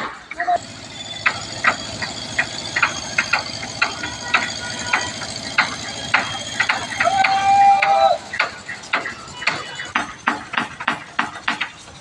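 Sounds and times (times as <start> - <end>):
engine humming: 0.0 - 12.0
hammer blows on timber: 0.7 - 11.8.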